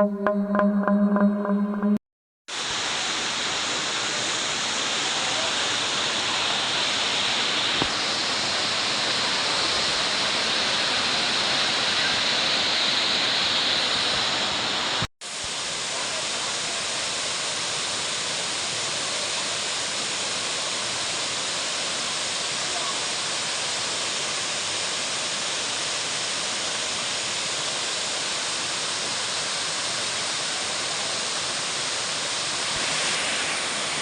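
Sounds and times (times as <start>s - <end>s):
waterfall rushing: 2.5s - 34.0s.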